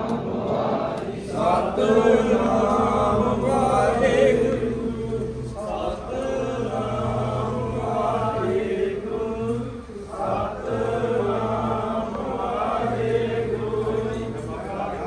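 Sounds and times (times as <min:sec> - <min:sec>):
group chanting devotional songs: 0:00.0 - 0:15.0
steady low drone: 0:00.0 - 0:15.0.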